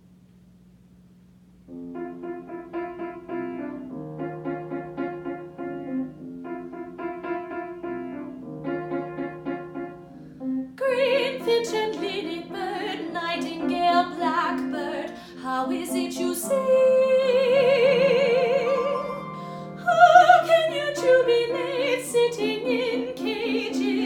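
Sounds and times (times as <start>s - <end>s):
faint steady hum: 0.0s - 24.0s
piano broken chords: 1.7s - 24.0s.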